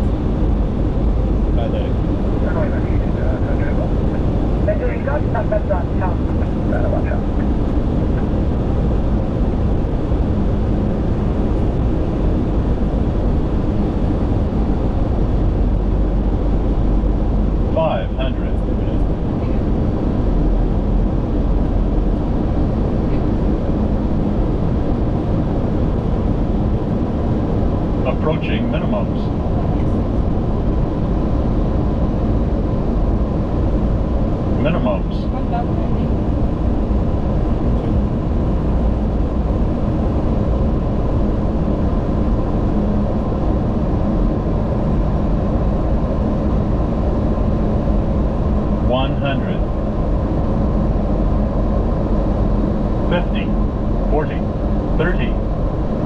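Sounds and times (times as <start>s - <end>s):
rumble of airflow and engines: 0.0s - 56.0s.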